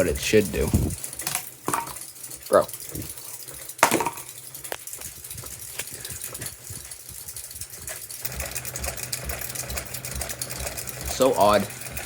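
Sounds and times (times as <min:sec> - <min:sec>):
ceiling fan humming: 0:00.0 - 0:12.0
fan rattling and ticking: 0:00.0 - 0:12.0.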